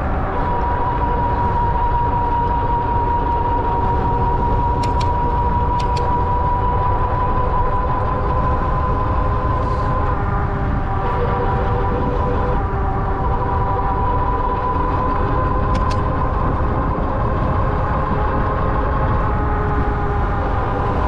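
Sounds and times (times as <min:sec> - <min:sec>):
wind and tyres rumbling: 0:00.0 - 0:21.0.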